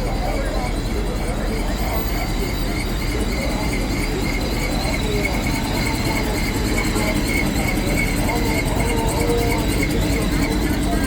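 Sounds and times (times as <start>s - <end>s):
faint voices: 0.0s - 11.0s
vehicles rumbling: 0.0s - 11.0s.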